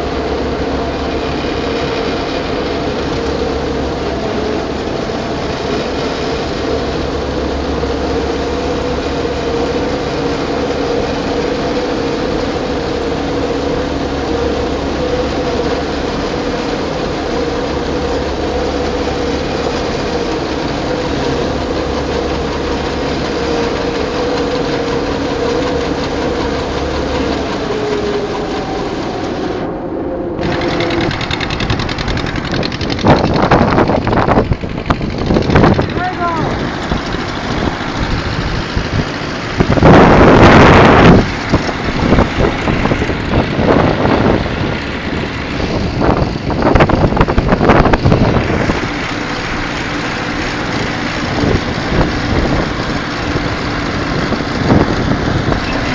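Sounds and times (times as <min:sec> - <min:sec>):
uneven engine and rattling: 0:00.0 - 0:29.8, 0:30.4 - 0:55.9
combine harvester humming: 0:00.0 - 0:55.9.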